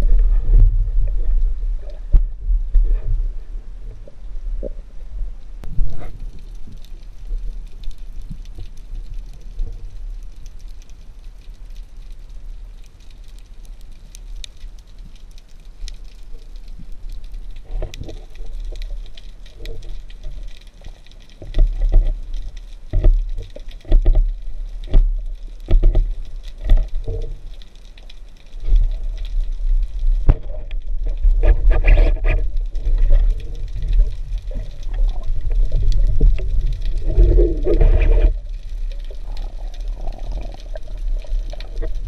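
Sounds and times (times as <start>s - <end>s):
underwater rumble of moving water: 0.0s - 42.0s
faint crackle of clicks: 5.6s - 42.0s.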